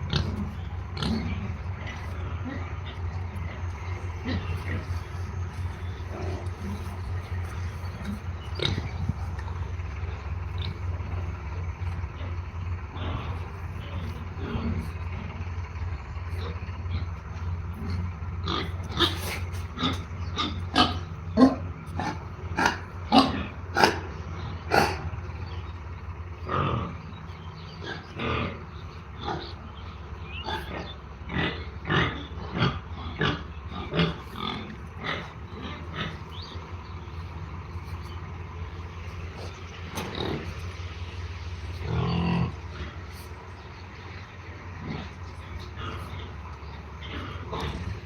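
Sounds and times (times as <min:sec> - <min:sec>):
pigs grunting: 0:00.0 - 0:48.0
steady low hum: 0:00.0 - 0:48.0.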